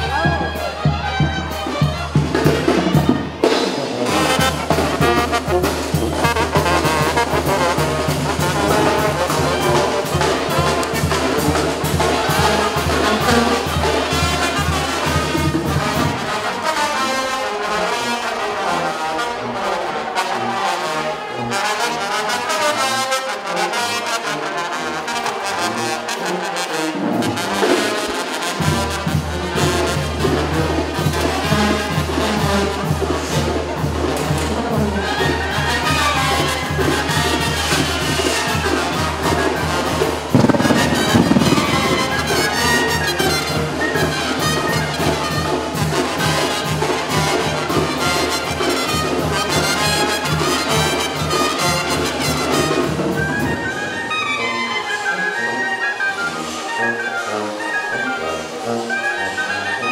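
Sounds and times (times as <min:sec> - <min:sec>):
brass band music: 0:00.0 - 0:59.9.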